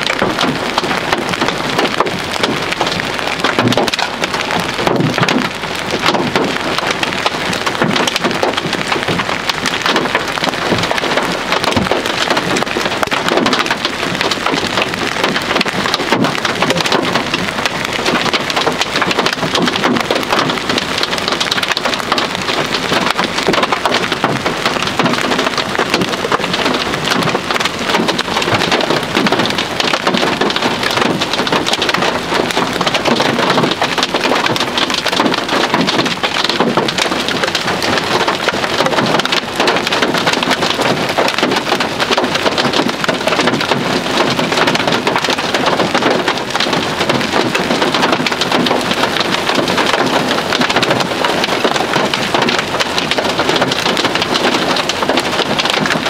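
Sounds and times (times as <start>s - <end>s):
hailstones impacting: 0.0s - 56.0s.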